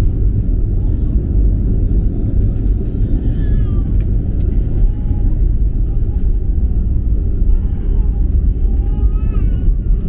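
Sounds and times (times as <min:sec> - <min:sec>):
engine and wheel rumble: 0:00.0 - 0:10.0.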